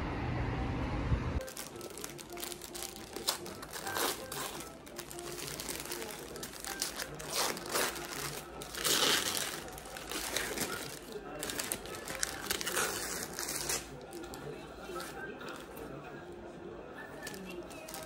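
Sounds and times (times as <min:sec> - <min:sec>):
crinkling and rustling: 0:01.4 - 0:16.0, 0:17.1 - 0:18.0
quiet background music: 0:01.4 - 0:18.0.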